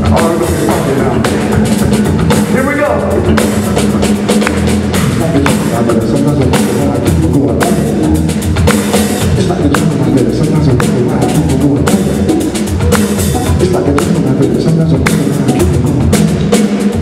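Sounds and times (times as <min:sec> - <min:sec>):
drum hits: 0:00.0 - 0:17.0
live band music: 0:00.0 - 0:17.0.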